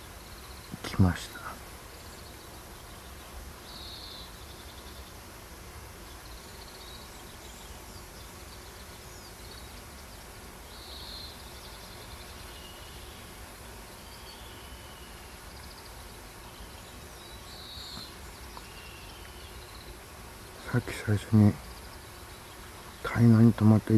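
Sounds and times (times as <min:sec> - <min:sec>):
wild birds chirping: 0:00.0 - 0:23.9.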